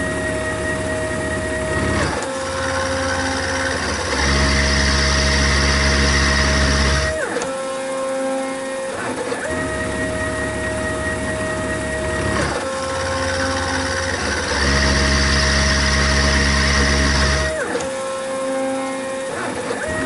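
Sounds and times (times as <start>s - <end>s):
milling machine motors whining: 0.0s - 20.0s.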